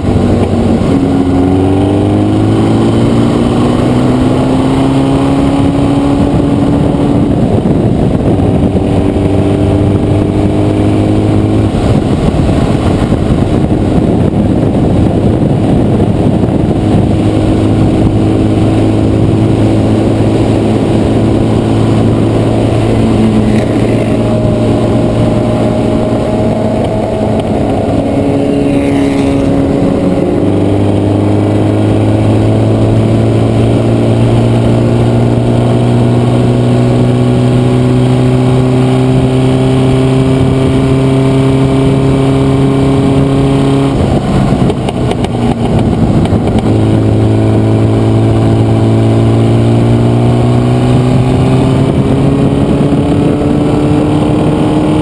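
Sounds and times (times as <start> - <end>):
gear changes: 0.0 - 55.0
race car engine running hard: 0.0 - 55.0
race car passing: 0.0 - 55.0
wind noise: 0.0 - 55.0.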